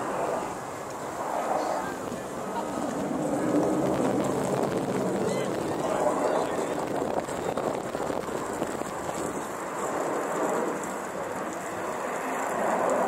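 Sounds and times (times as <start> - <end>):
distant jets flying overhead: 0.0 - 13.0.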